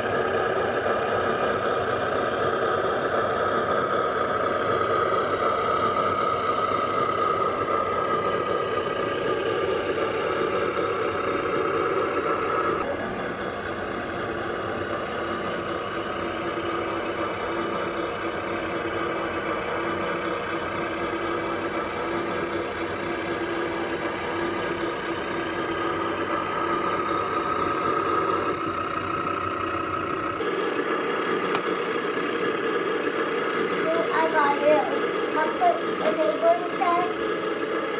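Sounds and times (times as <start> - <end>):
simulated diesel engine idle: 0.0 - 37.9.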